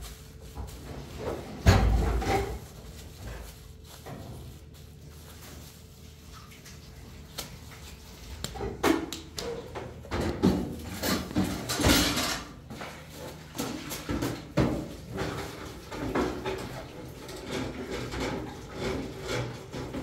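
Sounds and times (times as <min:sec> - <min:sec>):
kitchen things clattering: 0:00.0 - 0:04.7, 0:07.9 - 0:20.0.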